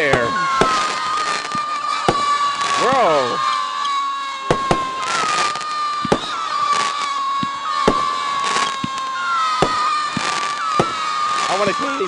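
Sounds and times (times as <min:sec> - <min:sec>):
crackling hiss: 0:00.0 - 0:12.0
firework bangs: 0:00.0 - 0:12.0
screaming firework whistles: 0:00.0 - 0:12.0.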